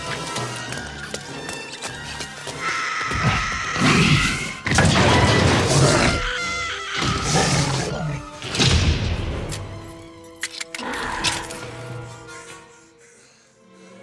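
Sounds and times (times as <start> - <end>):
film soundtrack music: 0.0 - 14.0.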